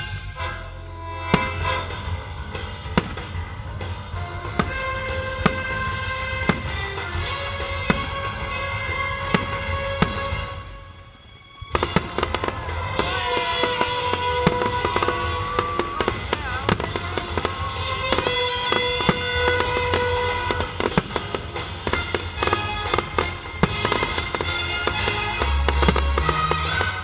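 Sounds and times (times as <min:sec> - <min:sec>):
loud music: 0:00.0 - 0:27.0
fireworks banging and crackling: 0:01.2 - 0:10.8, 0:11.6 - 0:27.0.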